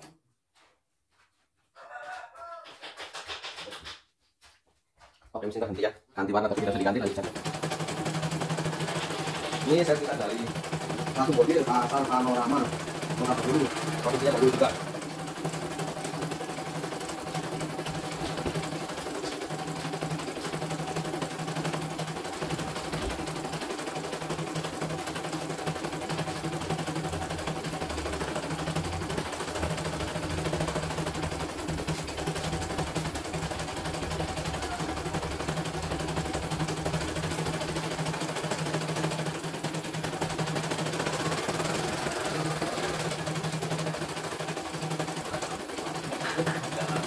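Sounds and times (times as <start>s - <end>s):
motor hum: 6.4s - 47.0s
embroidery machine needle rattle: 6.6s - 47.0s.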